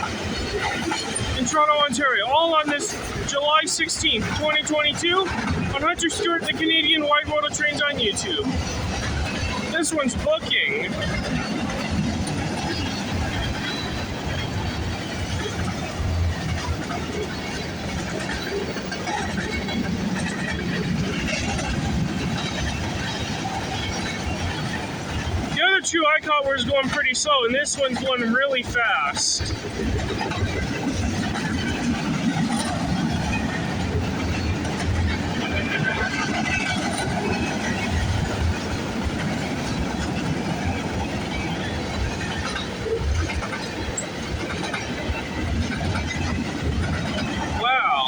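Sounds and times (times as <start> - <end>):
freight train wheels rumbling on rails: 0.0 - 48.0.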